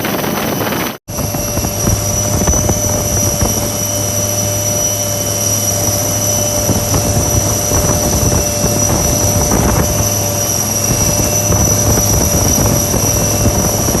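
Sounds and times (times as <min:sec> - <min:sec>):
helicopter rotor and engines: 0:00.0 - 0:14.0
wind buffeting: 0:00.0 - 0:14.0.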